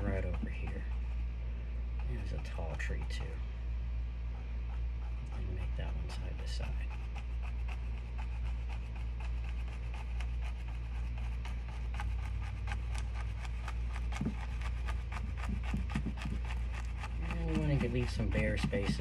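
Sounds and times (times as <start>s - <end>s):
brush stroking paint on canvas: 0.0s - 3.5s, 4.3s - 19.0s
steady low hum: 0.0s - 19.0s.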